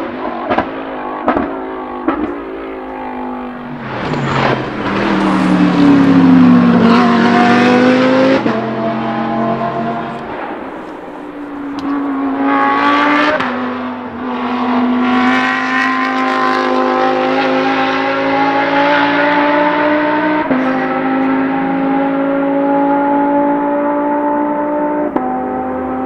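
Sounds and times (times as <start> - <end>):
racecar engine accelerating: 0.0 - 26.0.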